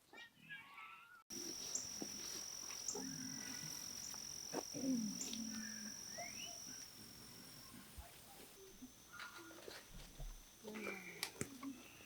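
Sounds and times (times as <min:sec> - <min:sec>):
high-pitched insect trill: 0:01.3 - 0:12.0.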